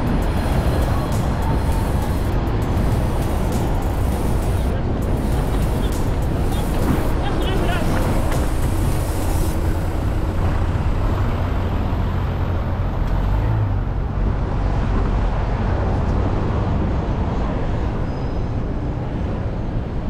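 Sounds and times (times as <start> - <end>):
low rumble of traffic: 0.0 - 20.0.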